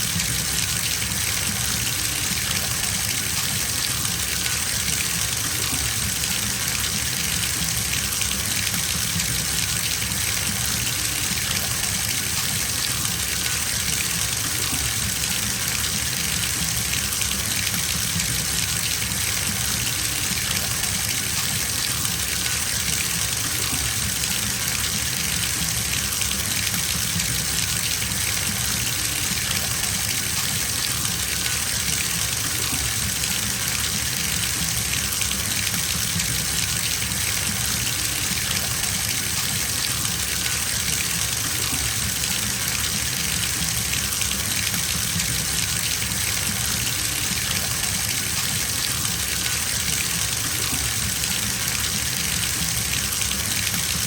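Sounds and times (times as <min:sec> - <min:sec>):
tap water filling bathtub: 0:00.0 - 0:54.0.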